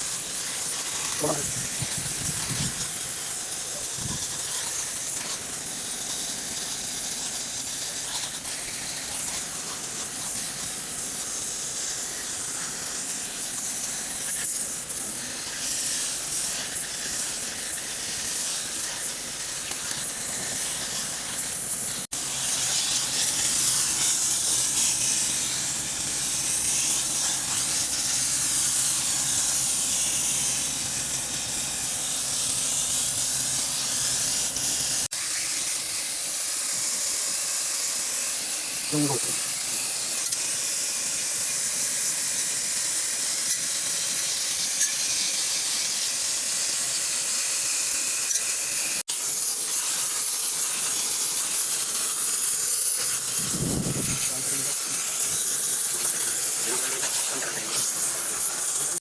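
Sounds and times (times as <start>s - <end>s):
high-pressure spray hissing: 0.0s - 59.0s.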